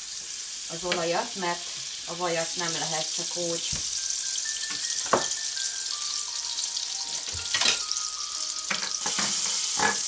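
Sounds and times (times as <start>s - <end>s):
butter and oil sizzling in pan: 0.0s - 10.0s.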